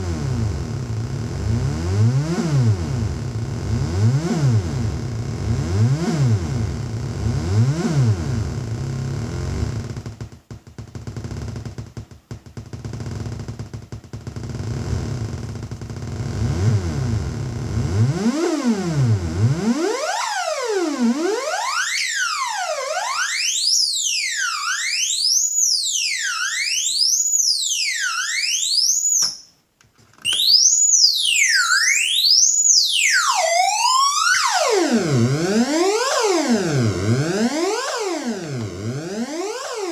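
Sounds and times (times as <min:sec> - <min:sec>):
synthesizer siren-like warble: 0:00.0 - 0:10.2, 0:14.4 - 0:29.1, 0:30.3 - 0:39.9.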